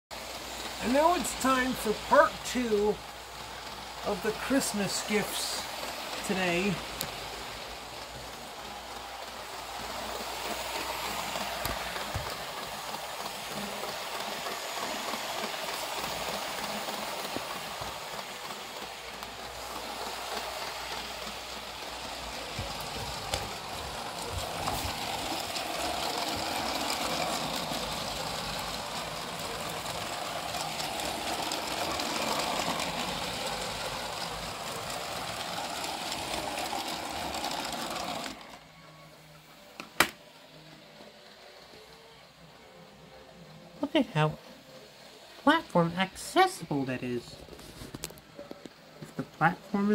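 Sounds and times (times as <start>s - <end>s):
toy train motor whirring: 0.2s - 42.6s.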